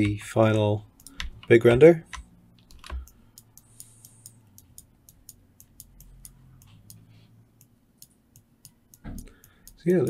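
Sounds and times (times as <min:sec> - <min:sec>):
computer mouse clicks: 0:00.9 - 0:10.0.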